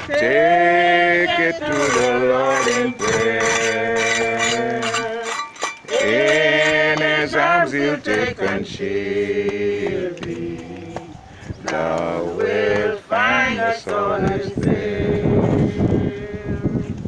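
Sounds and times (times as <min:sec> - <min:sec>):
people singing unaccompanied: 0:00.0 - 0:17.0.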